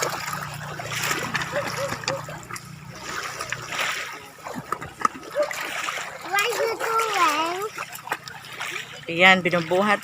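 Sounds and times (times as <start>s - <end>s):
seawater splashing in shallows: 0.0s - 10.0s.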